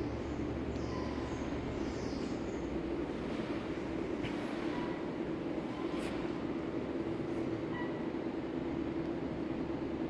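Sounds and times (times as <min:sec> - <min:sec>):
elevator car humming and rumbling: 0:00.0 - 0:10.0.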